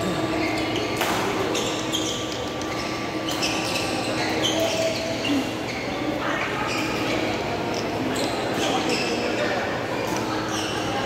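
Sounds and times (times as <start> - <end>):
sports shoes squeaking on court: 0.3 - 11.0.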